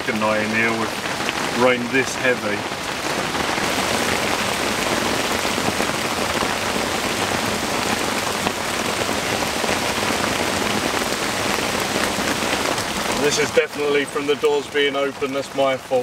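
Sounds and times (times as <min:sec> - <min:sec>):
heavy rain on cardboard tent: 0:00.0 - 0:16.0.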